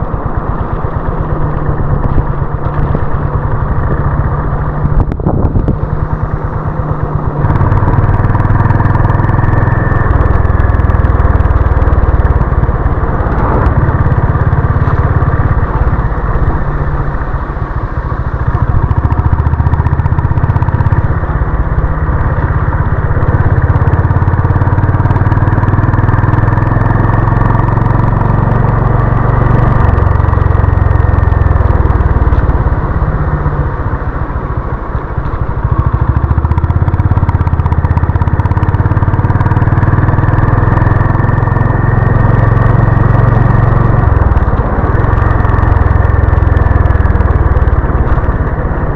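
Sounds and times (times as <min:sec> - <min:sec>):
single-cylinder motorcycle engine: 0:00.0 - 0:48.9.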